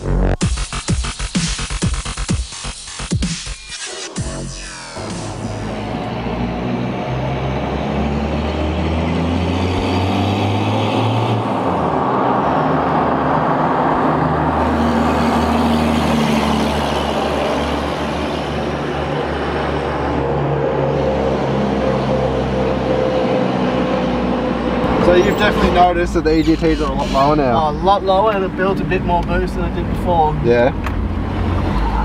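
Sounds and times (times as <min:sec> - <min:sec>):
diesel engine droning: 0:04.5 - 0:32.0.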